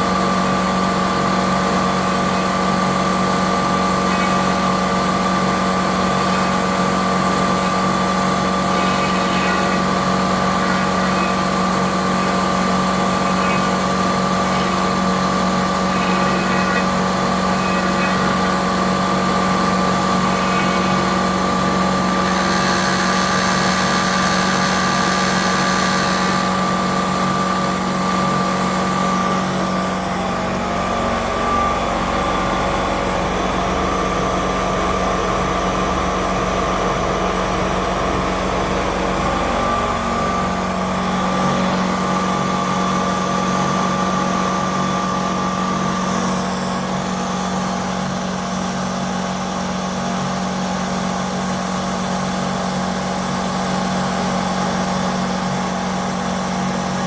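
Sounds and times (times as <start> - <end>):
milling machine whine and hum: 0.0 - 57.0.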